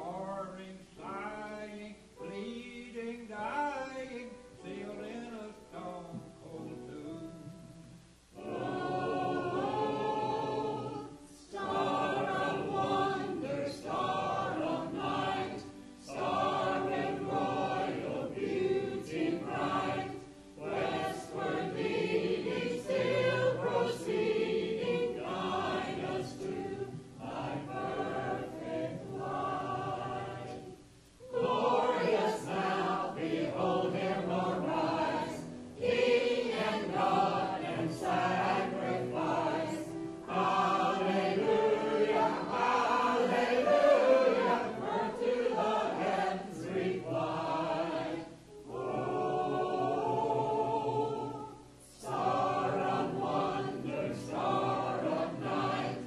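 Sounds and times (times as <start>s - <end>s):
mixed choir singing: 8.4s - 56.0s.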